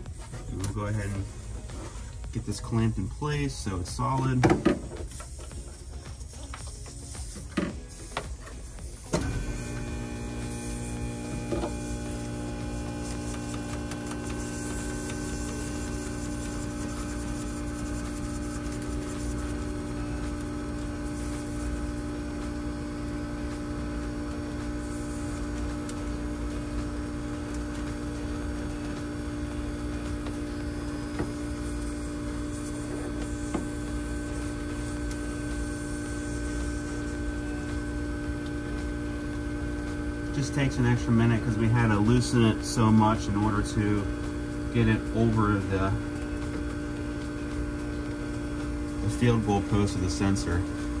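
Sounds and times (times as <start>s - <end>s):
hvac unit humming: 0.0s - 51.0s
thin high whine: 0.0s - 51.0s.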